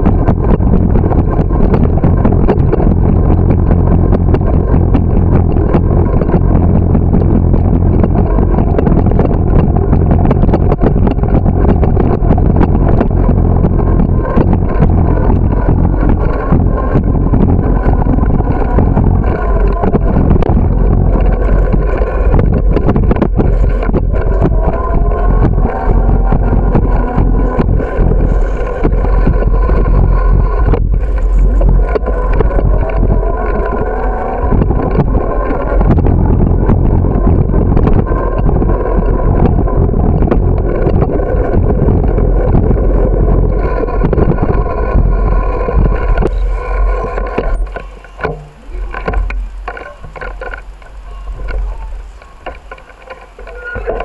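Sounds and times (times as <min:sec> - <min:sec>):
bike rattling over pavement: 0:00.0 - 0:54.0
wind rushing over microphone: 0:00.0 - 0:54.0.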